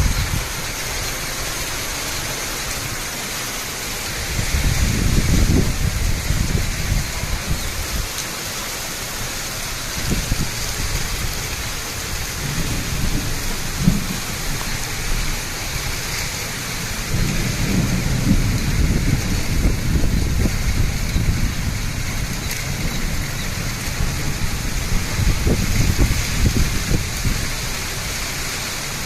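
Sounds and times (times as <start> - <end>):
steady rain hissing: 0.0 - 29.0
wind gusts on microphone: 0.0 - 29.0.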